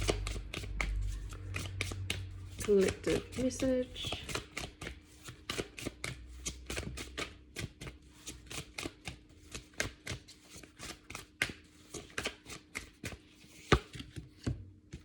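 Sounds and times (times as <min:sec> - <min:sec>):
cards being shuffled by hand: 0:00.0 - 0:15.0.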